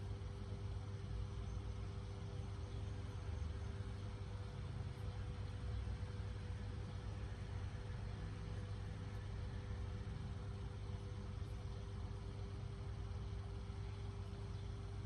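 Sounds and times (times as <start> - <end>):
faint even hum: 0.0 - 15.0
low mechanical rumble: 0.0 - 15.0.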